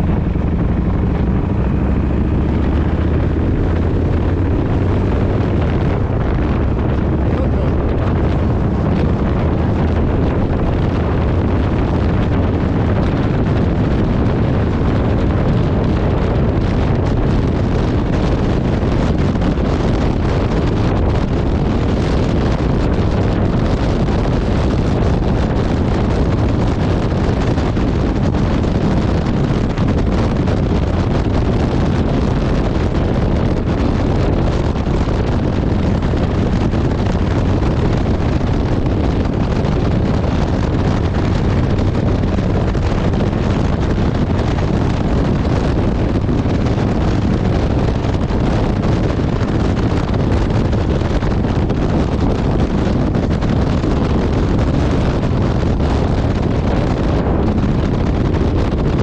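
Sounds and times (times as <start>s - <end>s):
motorcycle engine cruising: 0.0s - 59.0s
wind noise on microphone: 0.0s - 59.0s.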